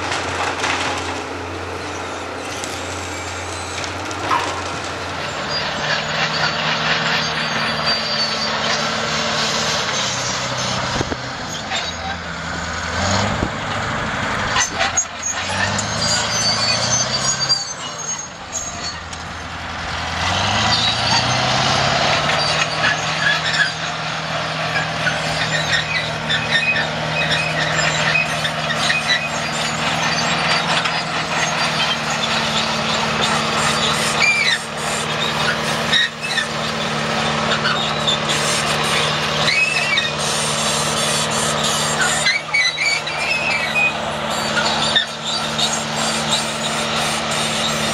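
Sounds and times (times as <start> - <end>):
diesel engine working: 0.0 - 47.9
high squeals: 1.6 - 12.3, 14.6 - 47.9.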